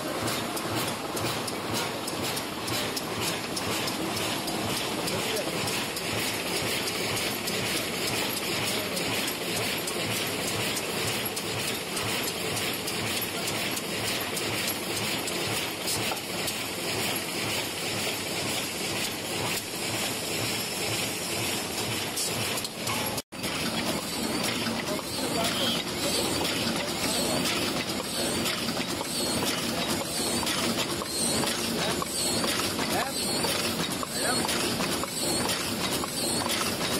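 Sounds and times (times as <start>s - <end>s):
machine clattering rapidly: 0.0s - 36.9s.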